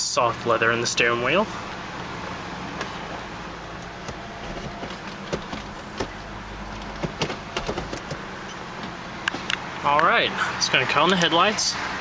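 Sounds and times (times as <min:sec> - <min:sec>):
car engine idling hum: 0:00.0 - 0:12.0.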